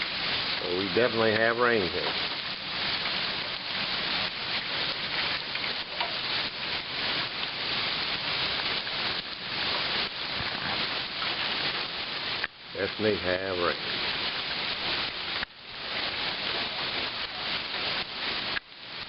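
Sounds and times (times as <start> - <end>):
heavy rain falling: 0.0 - 19.0
water gushing from downspouts: 0.0 - 19.0.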